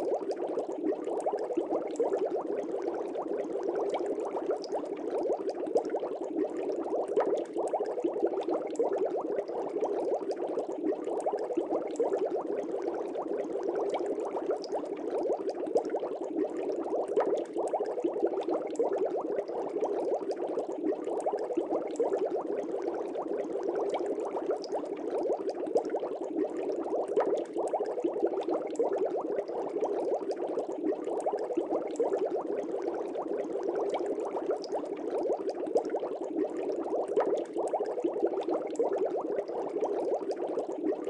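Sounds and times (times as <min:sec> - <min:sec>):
aquarium water bubbling: 0:00.0 - 0:41.0.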